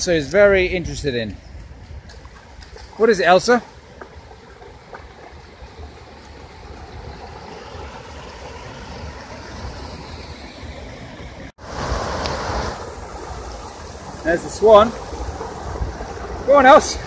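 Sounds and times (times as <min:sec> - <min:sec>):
water rushing over weir: 0:02.0 - 0:17.0.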